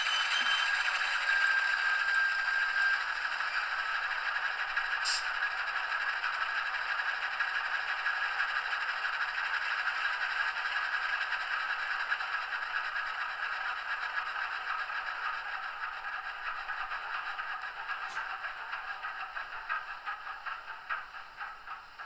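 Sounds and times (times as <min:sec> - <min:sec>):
model train diesel idle sound: 0:00.0 - 0:22.0.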